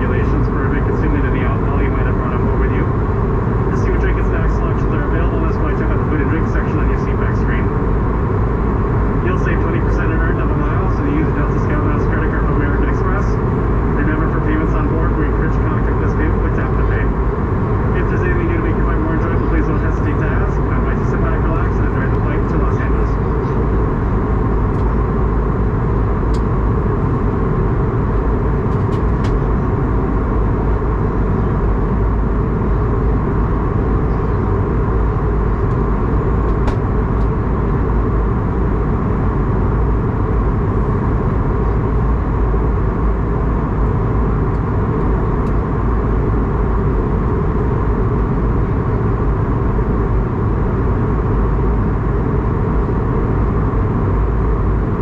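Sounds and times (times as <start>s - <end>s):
airplane cabin noise: 0.0s - 55.0s.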